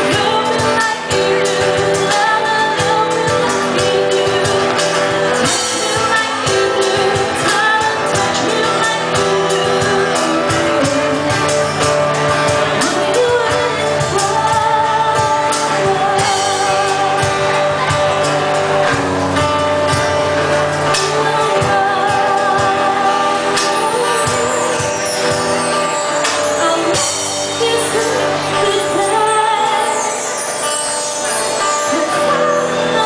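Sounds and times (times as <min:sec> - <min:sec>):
band accompaniment with beat: 0:00.0 - 0:33.0
person singing: 0:00.0 - 0:33.0.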